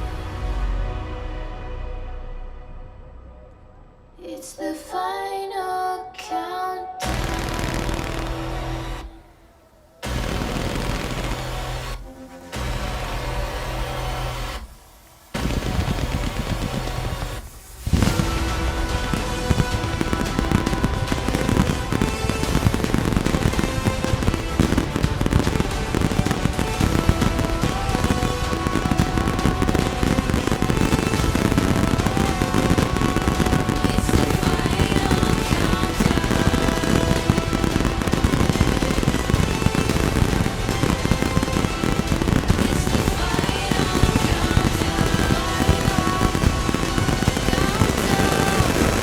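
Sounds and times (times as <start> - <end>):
loud music: 0.0 - 4.7, 7.0 - 9.3, 10.0 - 49.0
fireworks bangs and crackles: 7.0 - 49.0.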